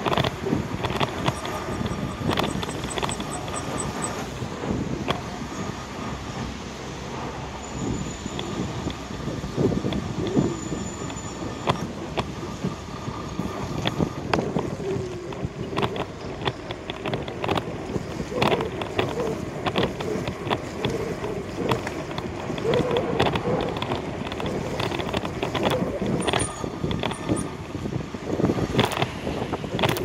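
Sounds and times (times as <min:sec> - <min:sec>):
bicycle clicks and knocks: 0:00.0 - 0:04.4, 0:09.6 - 0:30.0
street traffic: 0:00.0 - 0:30.0
wind rushing over microphone: 0:00.0 - 0:30.0.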